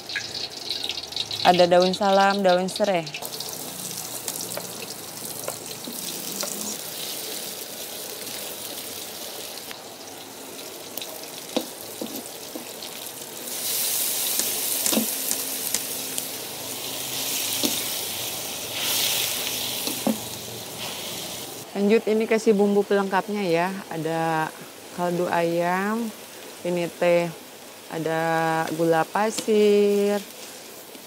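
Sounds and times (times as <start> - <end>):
food sizzling in a wok: 0.0 - 31.0.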